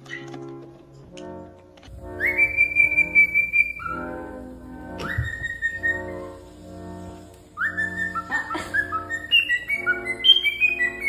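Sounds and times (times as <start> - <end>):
background music: 0.0 - 11.0
parrot whistling: 2.0 - 11.0.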